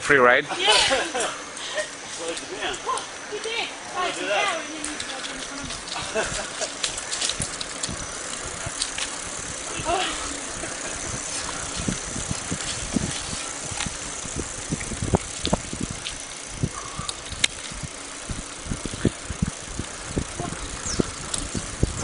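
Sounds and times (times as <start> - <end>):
bikes knocking and rattling: 0.0 - 22.0
bicycles rushing over dirt road: 0.7 - 22.0.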